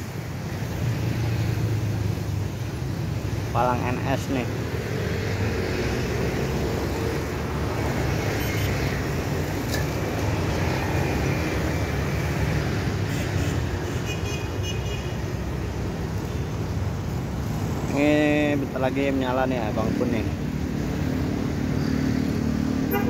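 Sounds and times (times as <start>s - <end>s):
motorcycle and van engines: 0.0s - 23.0s.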